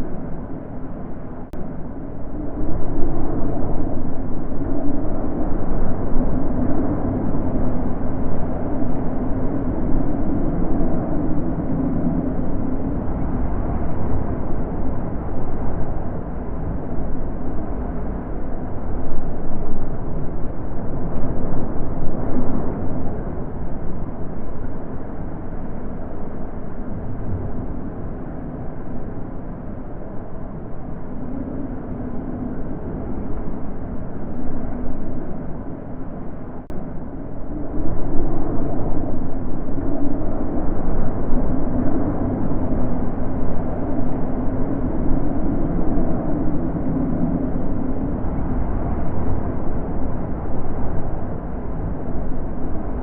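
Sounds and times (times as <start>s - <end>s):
wind blowing in gusts: 0.0s - 53.0s.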